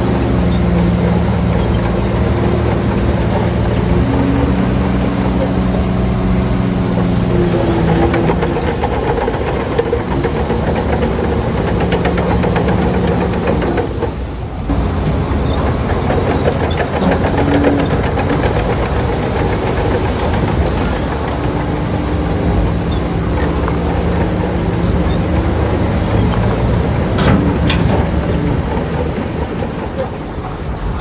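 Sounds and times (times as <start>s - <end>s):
heavy diesel machinery running: 0.0s - 31.0s
metal clanks and knocks: 0.0s - 31.0s.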